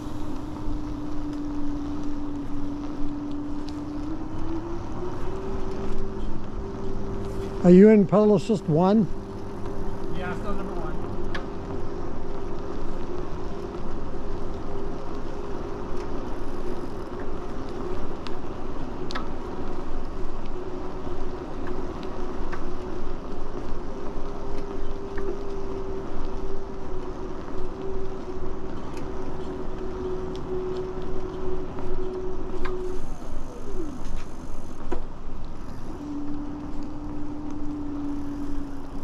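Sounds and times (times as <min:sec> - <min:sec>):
electric motor whine: 0:00.0 - 0:18.8, 0:19.5 - 0:39.0
tyres on pavement: 0:00.0 - 0:39.0.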